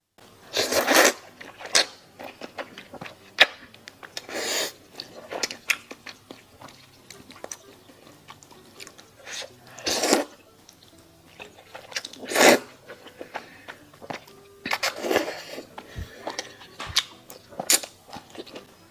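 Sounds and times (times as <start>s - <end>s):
chewing: 0.5s - 18.9s.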